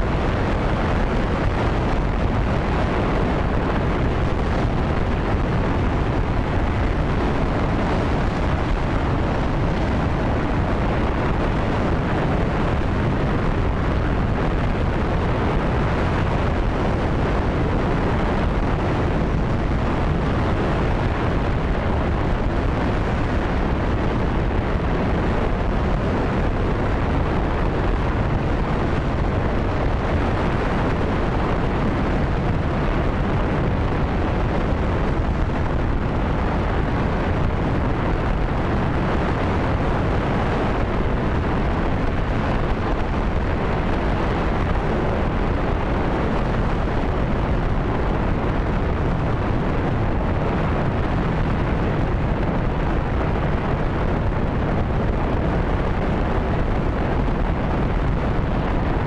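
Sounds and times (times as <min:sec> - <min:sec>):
rocket engine roaring: 0:00.0 - 0:59.0.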